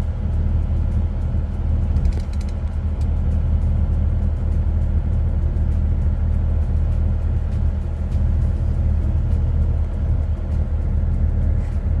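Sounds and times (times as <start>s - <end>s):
diesel truck engine droning: 0.0s - 12.0s
road rumble: 0.0s - 12.0s.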